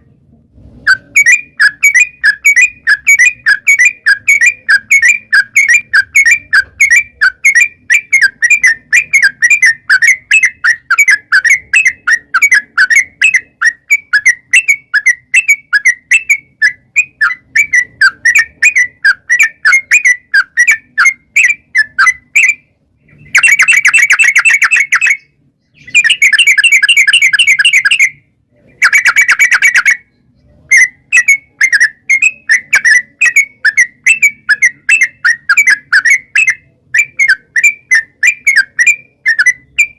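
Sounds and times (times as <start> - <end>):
bird chattering calls: 0.9 - 39.9.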